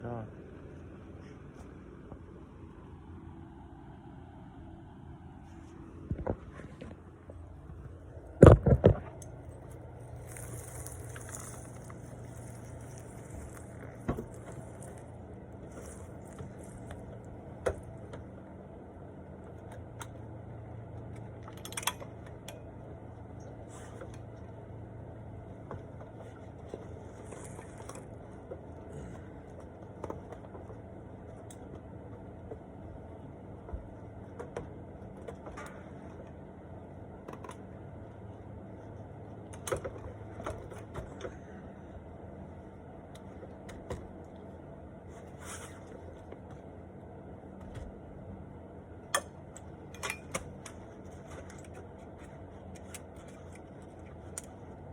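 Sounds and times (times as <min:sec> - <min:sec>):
faint low hum: 0:00.0 - 0:54.9.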